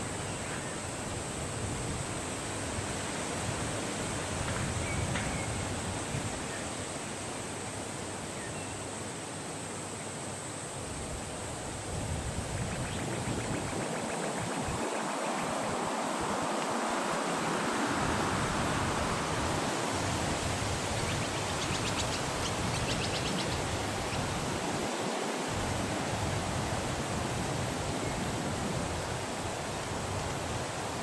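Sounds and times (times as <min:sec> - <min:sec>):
rushing wind: 0:00.0 - 0:07.7, 0:10.8 - 0:31.0.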